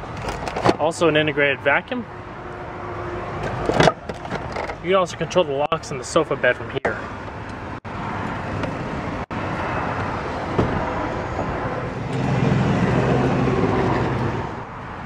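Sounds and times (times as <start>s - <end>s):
outdoor traffic noise: 0.0s - 15.0s.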